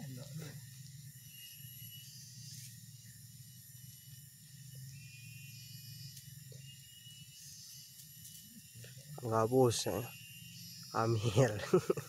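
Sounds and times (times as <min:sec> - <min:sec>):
steady high hiss: 0:00.0 - 0:12.0.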